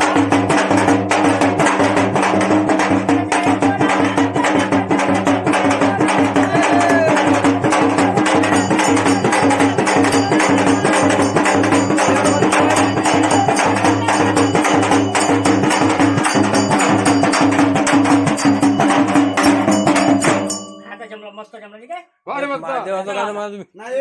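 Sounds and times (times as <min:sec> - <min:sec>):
frame drum fast rhythm: 0:00.0 - 0:21.4.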